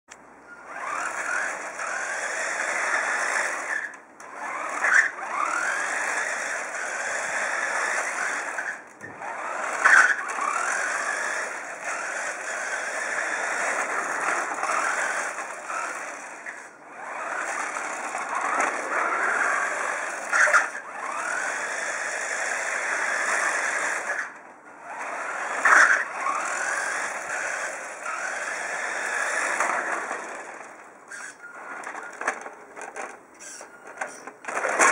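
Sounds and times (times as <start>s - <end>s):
model truck motor whining: 0.1s - 34.9s.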